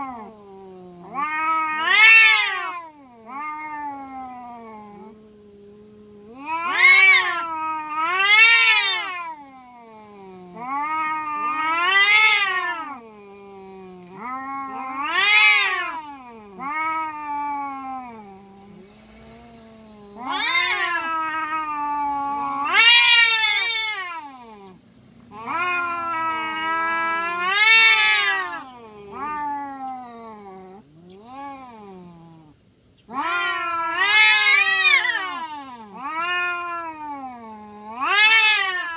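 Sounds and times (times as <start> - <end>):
cats yowling: 0.0 - 38.9.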